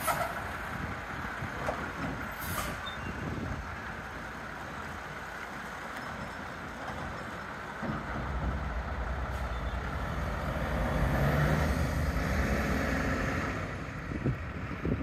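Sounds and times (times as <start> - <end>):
dump truck engine rumbling: 0.0 - 15.0.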